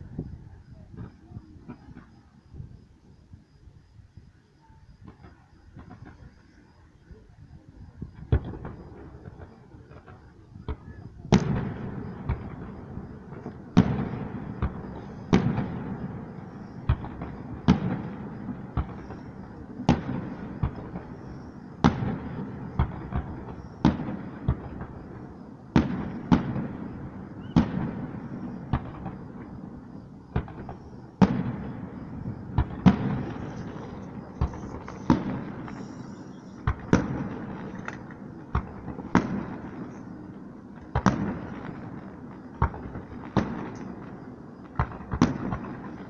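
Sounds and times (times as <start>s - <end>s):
fireworks bursting with echoing rumble: 5.0s - 46.0s.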